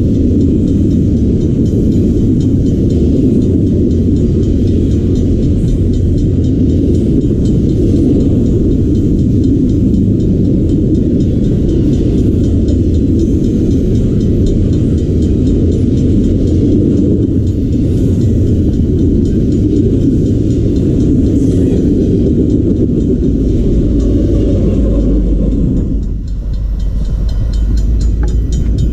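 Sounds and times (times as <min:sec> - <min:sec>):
train wheels rumbling on rail: 0:00.0 - 0:28.9.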